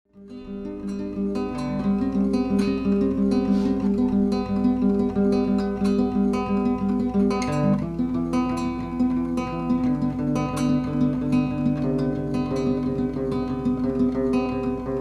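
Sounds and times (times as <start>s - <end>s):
acoustic guitar plucking: 0.1s - 15.0s.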